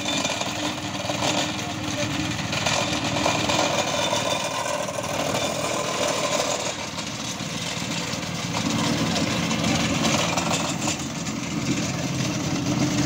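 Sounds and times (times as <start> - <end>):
plate compactor running: 0.0 - 13.0.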